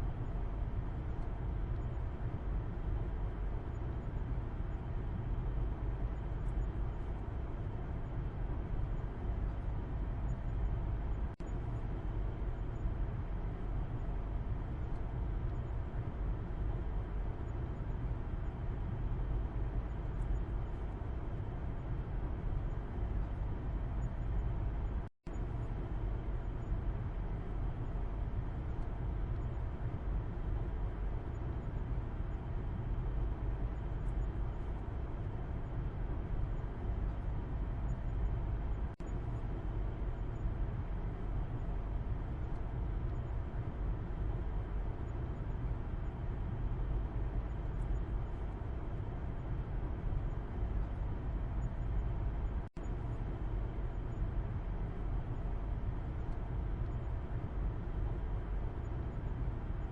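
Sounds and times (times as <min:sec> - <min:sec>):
road and engine rumble inside car: 0:00.0 - 0:59.9.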